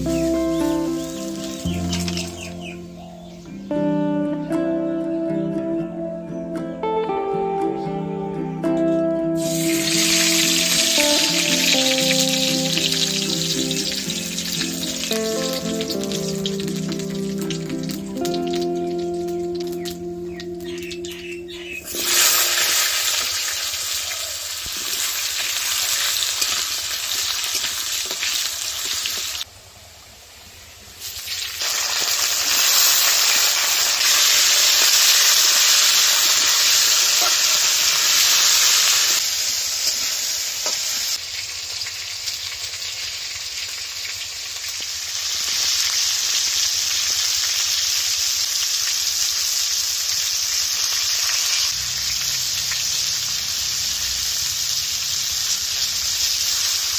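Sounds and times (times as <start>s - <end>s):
vegetables sizzling in oil: 0.0s - 3.8s, 9.4s - 29.5s, 30.2s - 56.9s.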